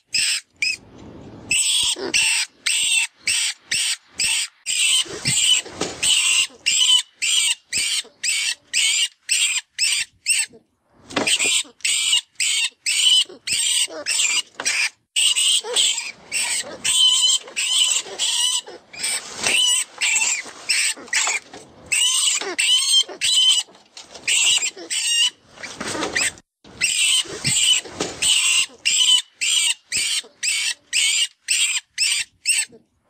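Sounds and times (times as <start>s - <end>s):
rat squeaks and squeals: 0.0s - 0.8s, 1.5s - 10.6s, 11.3s - 23.7s, 26.1s - 32.8s.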